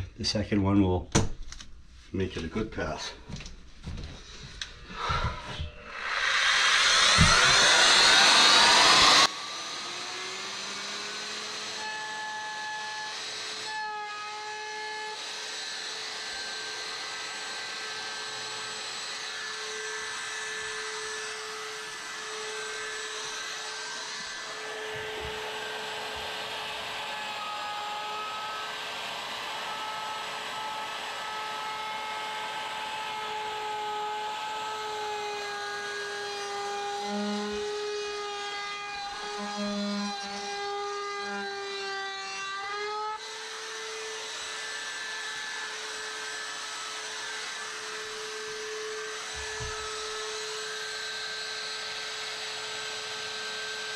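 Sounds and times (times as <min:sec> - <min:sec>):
router cutting wood: 0:04.6 - 0:53.9
router motor whining: 0:04.6 - 0:53.9.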